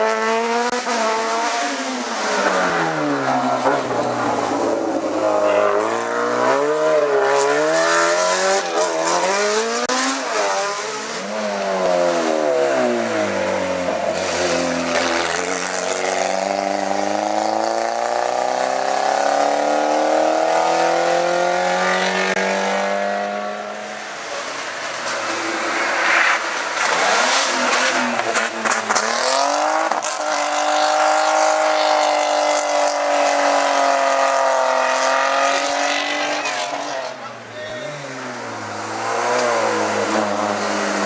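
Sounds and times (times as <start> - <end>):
race car engines revving: 0.0 - 41.0.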